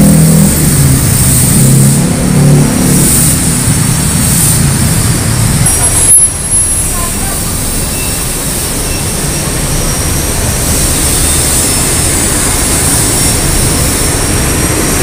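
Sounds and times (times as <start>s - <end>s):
dense road traffic passing: 0.0s - 15.0s.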